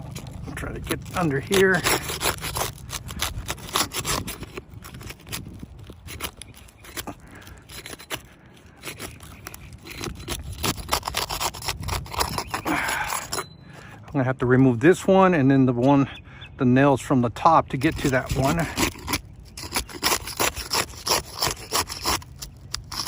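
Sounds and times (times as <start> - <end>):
tool scraping under shingles: 0.0 - 16.1, 17.4 - 23.0.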